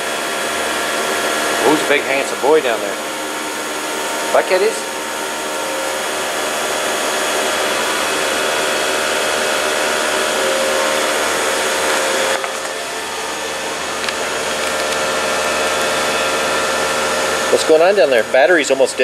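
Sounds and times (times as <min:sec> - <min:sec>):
loud blower whir: 0:00.0 - 0:19.0.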